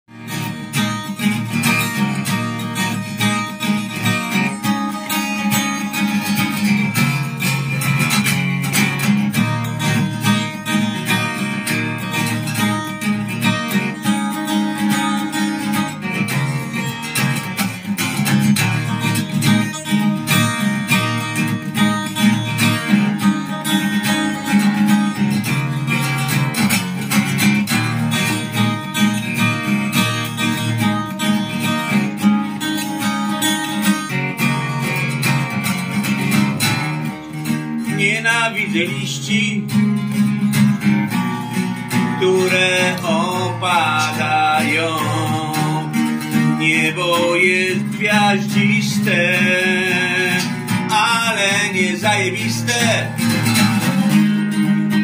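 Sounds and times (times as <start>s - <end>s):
acoustic guitar strumming: 0.1s - 55.0s.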